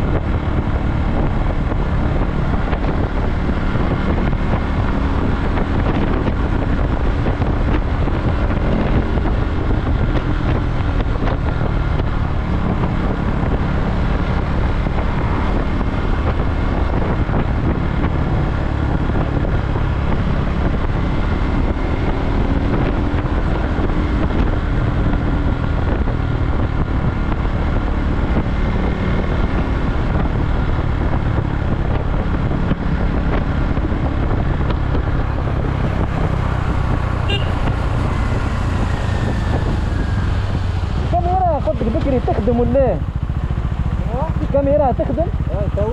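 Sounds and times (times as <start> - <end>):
motorcycle engine cruising: 0.0 - 45.9
wind noise on microphone: 0.0 - 45.9.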